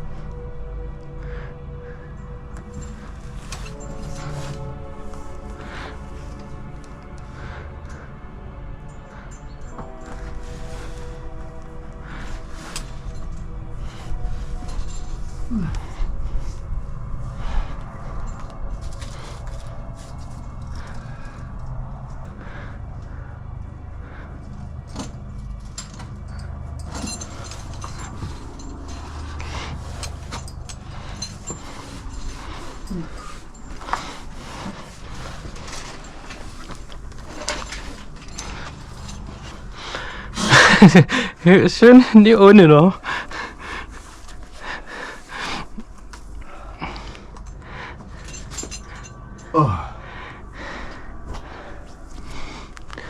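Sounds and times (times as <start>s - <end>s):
clothing and rope rubbing: 0.0s - 53.0s
steady low rumble: 0.0s - 53.0s
person breathing hard: 0.8s - 41.5s, 42.9s - 53.0s
climbing gear clinking on rock: 2.2s - 8.1s, 8.8s - 23.3s, 24.2s - 53.0s.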